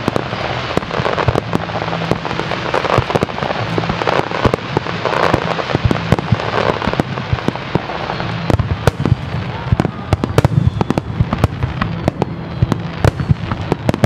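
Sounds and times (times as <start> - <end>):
fireworks bangs: 0.0 - 14.0
fireworks crackling: 0.0 - 14.0.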